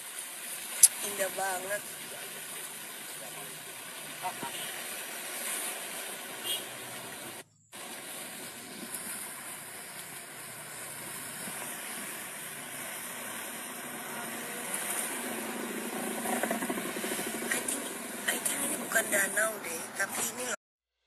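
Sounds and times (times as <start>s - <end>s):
steady outdoor hiss: 0.0s - 20.4s.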